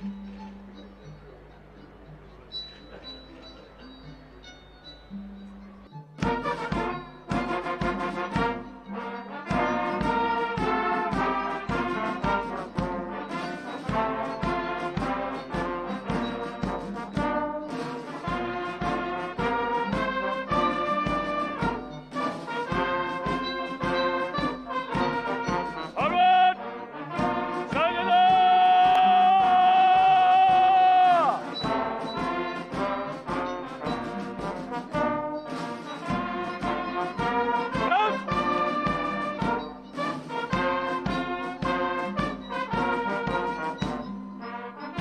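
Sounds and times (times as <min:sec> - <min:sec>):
brass band playing: 0:06.2 - 0:45.0.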